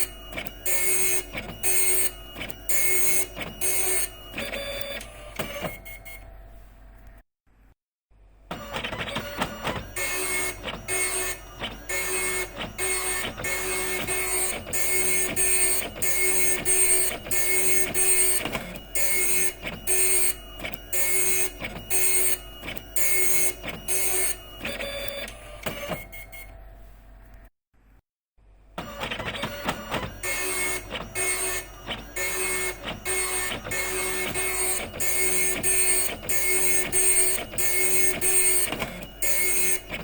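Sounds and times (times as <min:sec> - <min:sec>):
dot matrix printer chattering: 0:00.0 - 0:05.0, 0:08.7 - 0:25.2, 0:28.9 - 0:40.0
high-pitched printer whine: 0:00.0 - 0:06.5, 0:08.5 - 0:26.8, 0:28.8 - 0:40.0.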